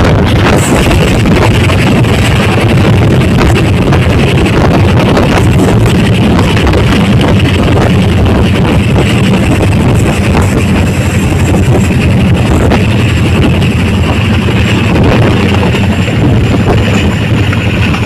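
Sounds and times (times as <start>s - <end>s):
helicopter rotors and turbines droning: 0.0s - 18.0s.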